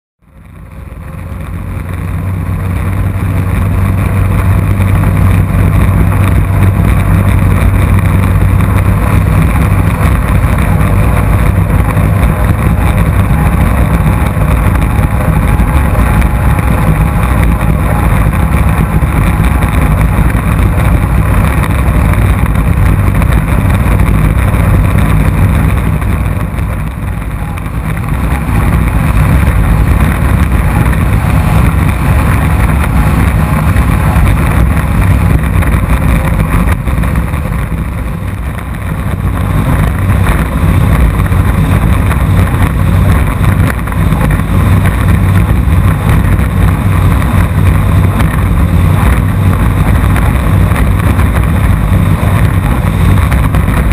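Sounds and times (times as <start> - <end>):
powerboat engine drone: 0.2 - 53.9
hull rushing through water: 1.0 - 53.9.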